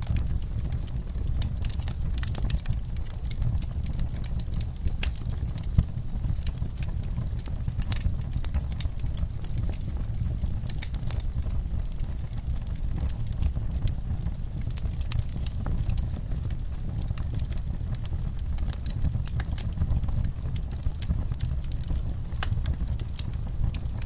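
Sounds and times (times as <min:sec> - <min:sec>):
snaps and pops of burning wood: 0:00.0 - 0:24.0
wood fire crackling: 0:00.0 - 0:24.0.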